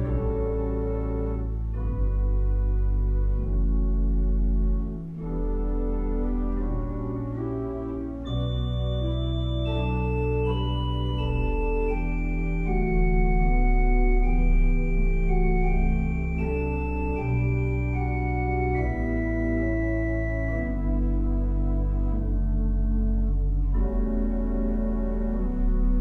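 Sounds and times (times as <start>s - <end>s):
church organ playing chords: 0.0s - 26.0s.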